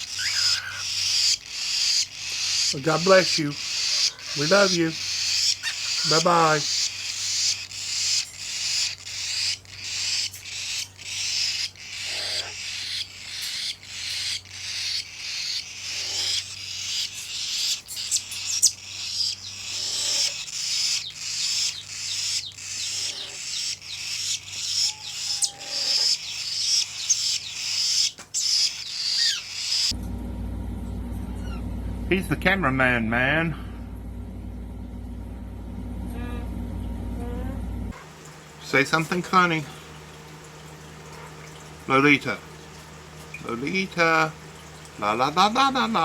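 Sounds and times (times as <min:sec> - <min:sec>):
baby birds raspy begging calls: 0:00.0 - 0:29.9, 0:38.0 - 0:46.0.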